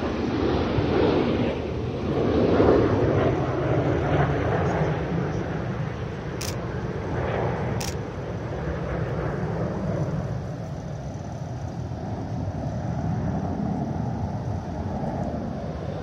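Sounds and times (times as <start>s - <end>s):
distant jet aircraft rumble: 0.0s - 16.0s.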